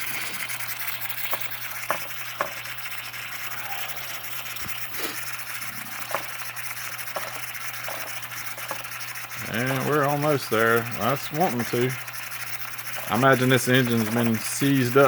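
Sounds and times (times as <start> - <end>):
steam engine hissing: 0.0 - 15.0.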